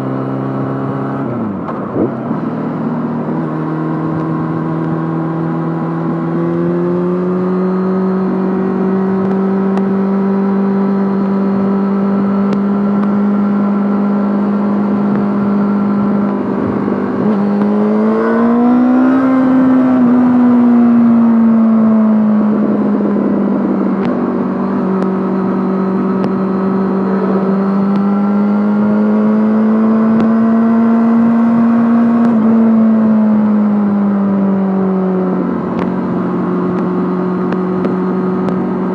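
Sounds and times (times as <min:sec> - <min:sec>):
motorcycle engine riding: 0:00.0 - 0:38.9.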